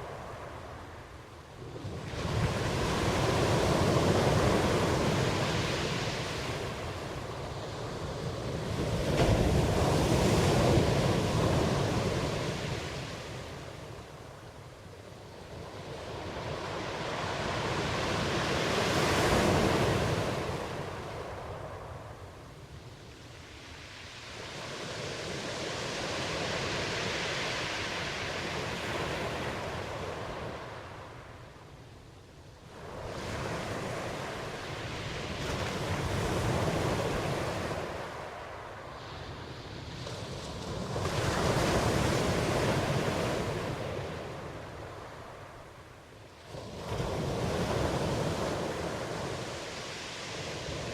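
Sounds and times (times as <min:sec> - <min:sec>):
ocean waves breaking: 0:00.0 - 0:14.8, 0:23.4 - 0:31.4, 0:32.7 - 0:50.9.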